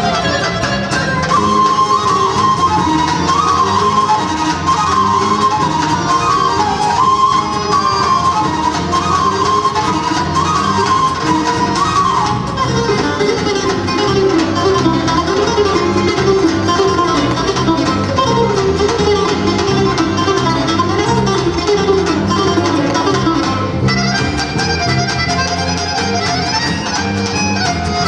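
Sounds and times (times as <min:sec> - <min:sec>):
bright high melody part: 0:00.0 - 0:28.0
folk orchestra instrumental tune: 0:00.0 - 0:28.0.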